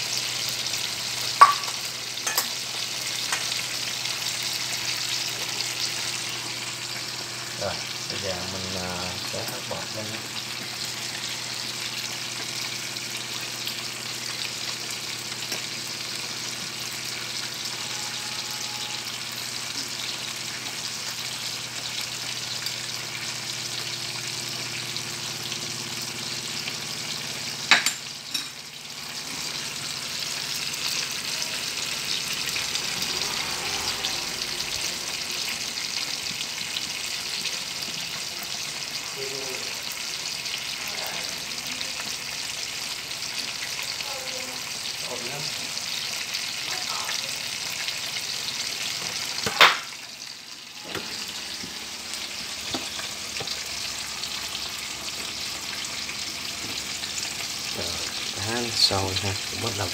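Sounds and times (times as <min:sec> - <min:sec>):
fish sizzling in a frying pan: 0:00.0 - 0:59.9.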